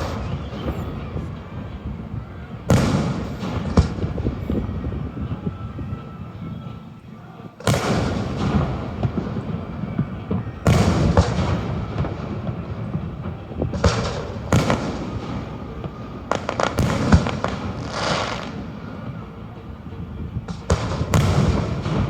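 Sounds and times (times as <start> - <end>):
fireworks booming: 0.0 - 22.0
rumbling echo: 0.0 - 22.0.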